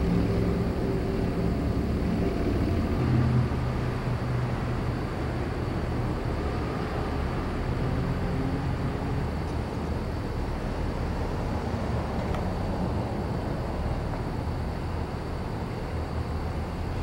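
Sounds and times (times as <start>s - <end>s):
street background rumble and hum: 0.0s - 17.0s.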